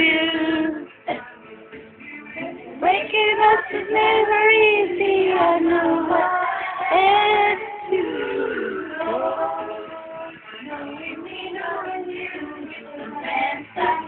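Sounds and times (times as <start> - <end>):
girl singing a melody: 2.4 - 14.0.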